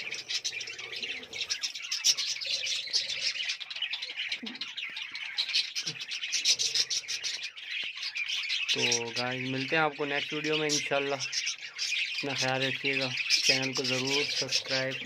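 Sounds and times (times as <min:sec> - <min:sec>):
budgerigars chattering and chirping: 0:00.0 - 0:15.0.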